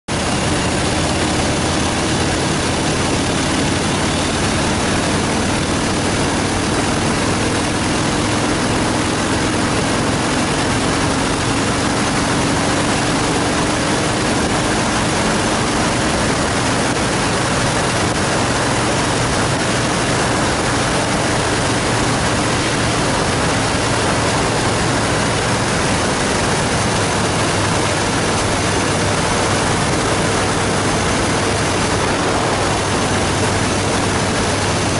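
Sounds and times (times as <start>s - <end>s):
motorcycle engine running: 0.1s - 34.9s
wind rushing over microphone: 0.1s - 34.9s.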